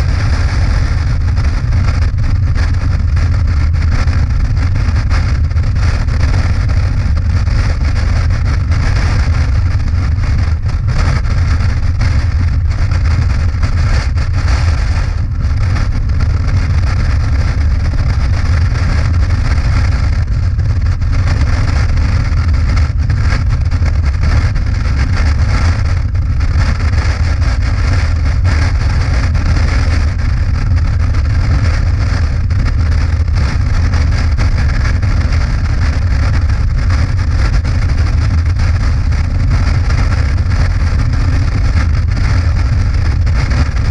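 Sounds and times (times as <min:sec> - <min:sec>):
wind rushing: 0:00.0 - 0:40.8.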